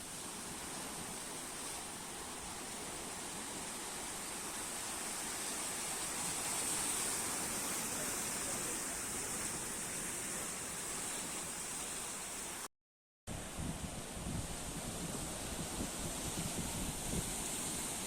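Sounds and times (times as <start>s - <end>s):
sea waves washing onto shore: 0.0s - 12.7s, 13.3s - 18.0s.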